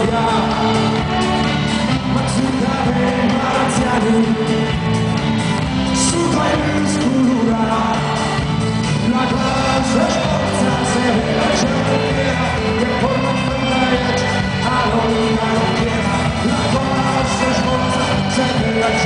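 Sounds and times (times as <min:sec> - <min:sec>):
live folk-rock band with singer: 0:00.0 - 0:19.0.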